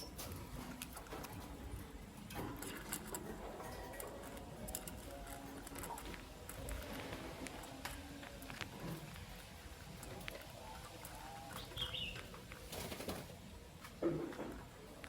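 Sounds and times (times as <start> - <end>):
birds pecking and tapping: 0.0 - 15.0.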